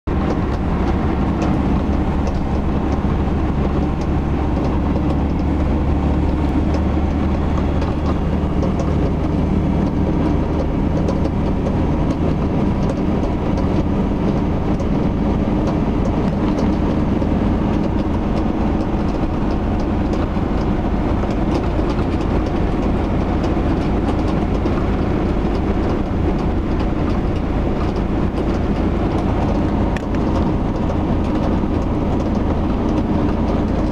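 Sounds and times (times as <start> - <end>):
van engine and road rumble: 0.0 - 33.9
clicking under dashboard: 0.1 - 33.9.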